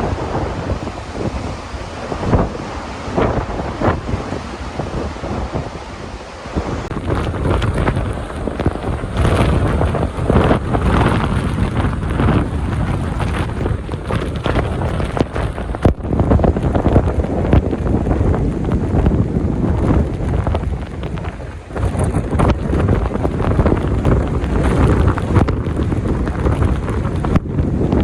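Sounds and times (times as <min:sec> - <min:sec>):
gusting wind on microphone: 0:00.0 - 0:28.0.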